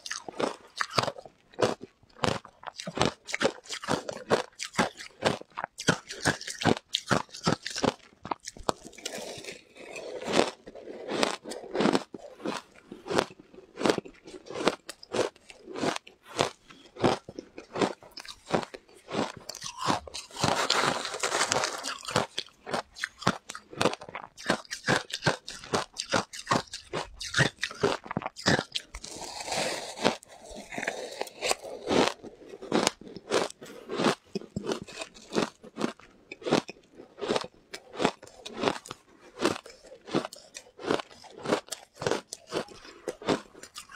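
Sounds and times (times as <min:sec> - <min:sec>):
crunching and chewing shaved ice: 0:00.0 - 0:43.9.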